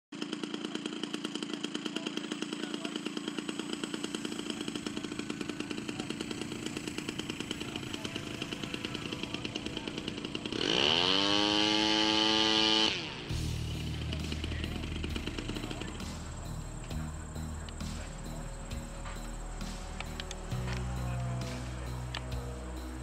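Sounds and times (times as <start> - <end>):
model airplane engine buzzing: 0.2 - 23.0.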